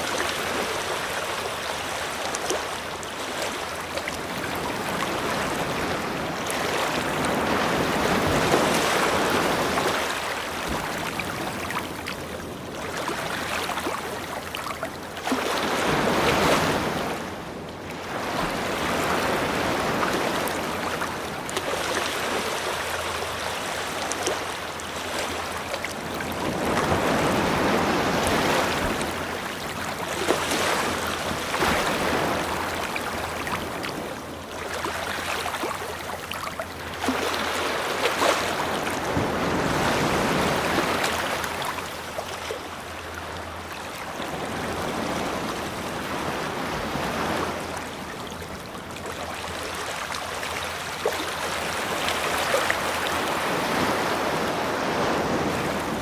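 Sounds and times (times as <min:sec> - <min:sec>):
ocean waves breaking on a beach: 0:00.0 - 0:56.0.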